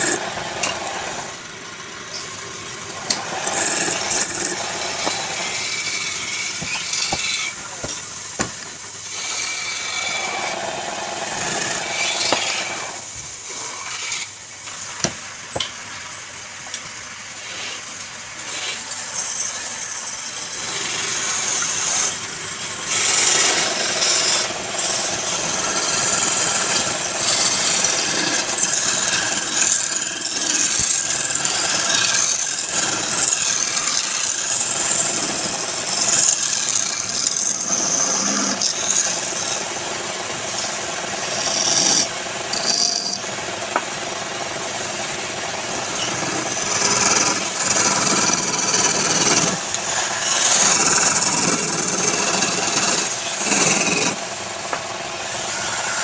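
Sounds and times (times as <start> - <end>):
lathe tool scraping wood: 0.0 - 15.6, 17.4 - 56.0.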